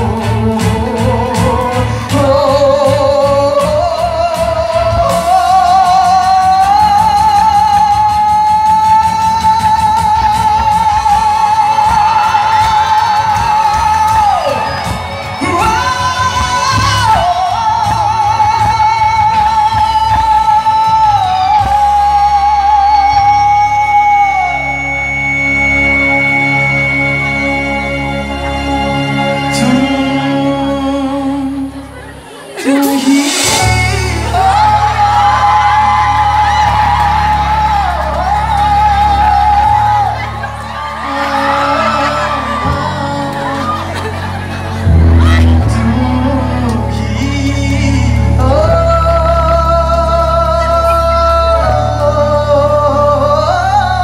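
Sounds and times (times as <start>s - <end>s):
amplified backing track: 0.0s - 54.0s
man singing with vibrato: 0.0s - 54.0s.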